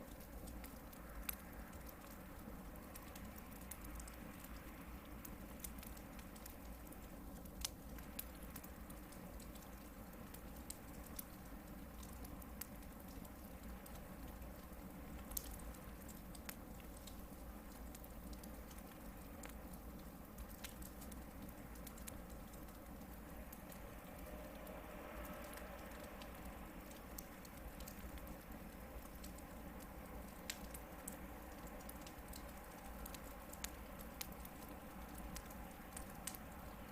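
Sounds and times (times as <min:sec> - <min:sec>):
campfire flames rumbling: 0:00.0 - 0:36.9
logs crackling and popping: 0:00.0 - 0:36.9.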